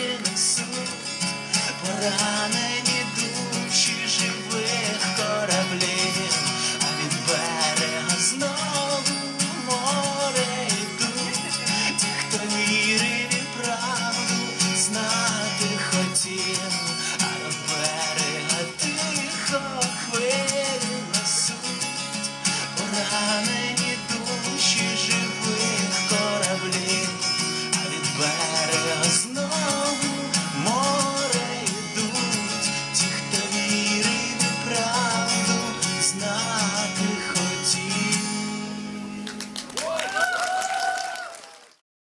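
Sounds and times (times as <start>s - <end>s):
man singing: 0.0s - 38.6s
acoustic guitar: 0.0s - 40.2s.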